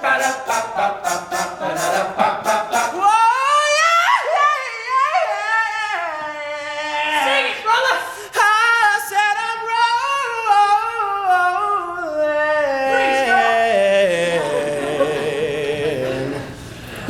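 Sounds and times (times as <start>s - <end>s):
solo voice singing: 0.0s - 16.7s
voices singing in harmony: 0.0s - 17.0s.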